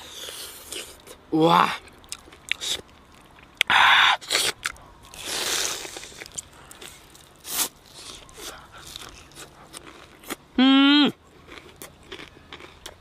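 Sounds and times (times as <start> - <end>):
crunching and chewing fried chicken: 0.0 - 13.0.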